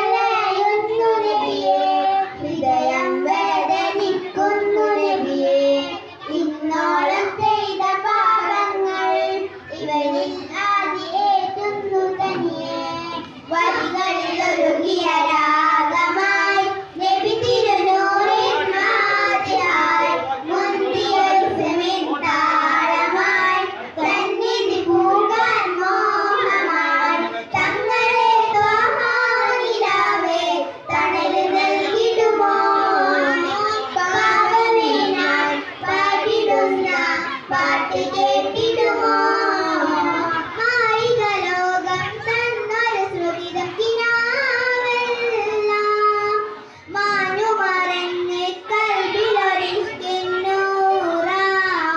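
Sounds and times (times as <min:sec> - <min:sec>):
child singing: 0:00.0 - 0:51.9.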